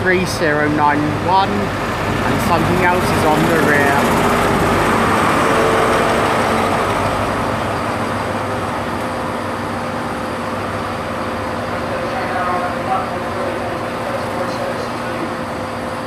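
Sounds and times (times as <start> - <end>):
diesel engine hum: 0.0 - 16.0
train coaches rolling rumble: 0.0 - 16.0.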